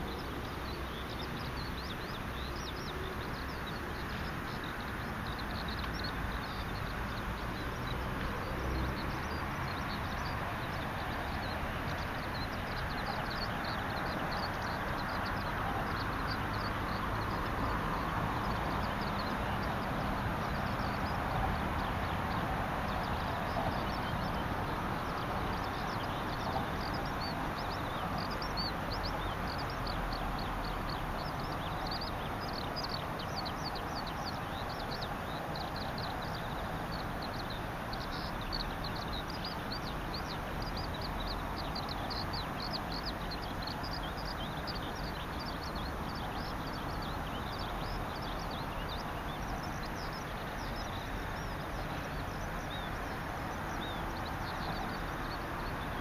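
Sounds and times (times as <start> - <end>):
small birds chirping: 0.0 - 56.0
steady rushing background noise: 0.0 - 56.0.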